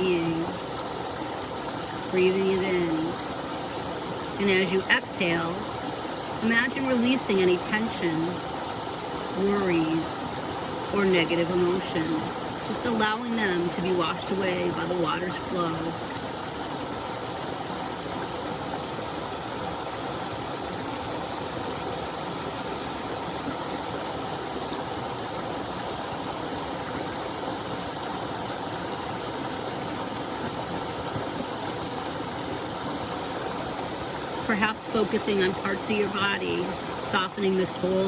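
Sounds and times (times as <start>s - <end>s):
small waterfall rushing: 0.0s - 38.0s.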